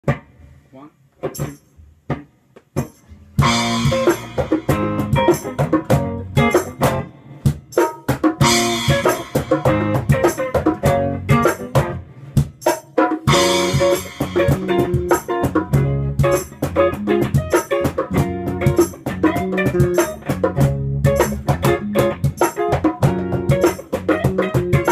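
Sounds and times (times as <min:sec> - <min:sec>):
rock latin pop band playing: 0:03.4 - 0:24.9.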